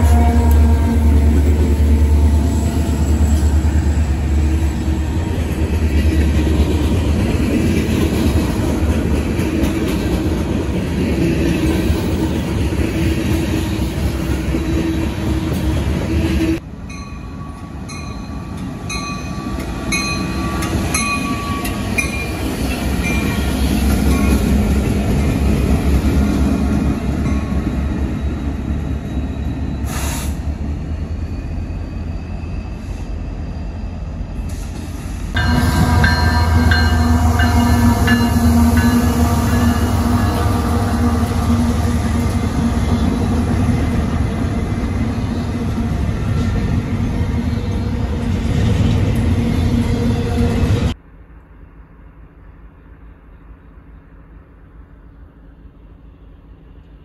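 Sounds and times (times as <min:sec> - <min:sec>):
diesel locomotive engine rumble: 0:00.0 - 0:57.0
freight train approaching: 0:00.0 - 0:57.0.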